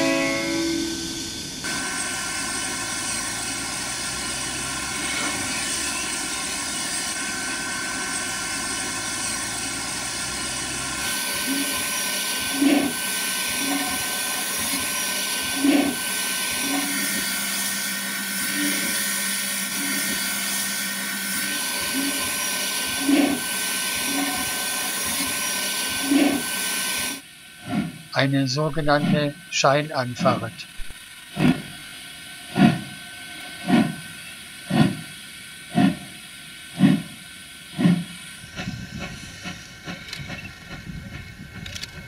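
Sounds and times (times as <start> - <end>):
hissing steam: 0.0 - 41.9
steam locomotive exhaust beats: 0.0 - 42.0.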